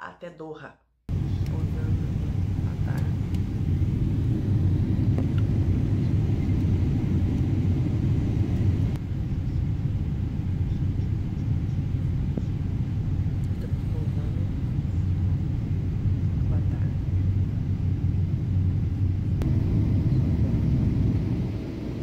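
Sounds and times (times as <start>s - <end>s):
jet cabin engine rumble: 1.1s - 22.0s.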